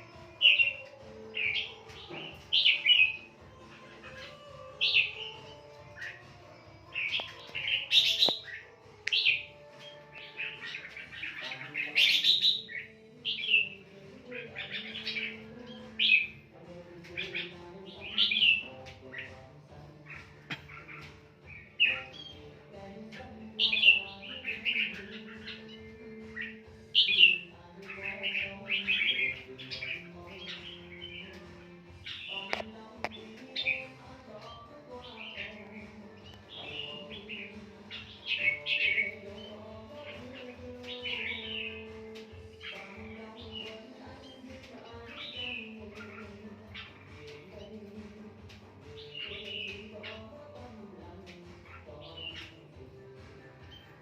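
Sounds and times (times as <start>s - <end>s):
songbird chirping and singing: 0.0s - 54.0s.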